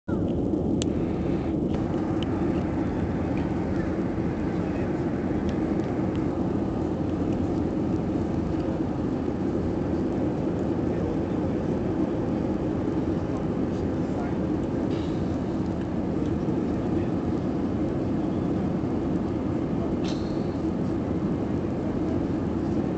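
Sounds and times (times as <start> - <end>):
airplane cabin engine drone: 0.1 - 22.9.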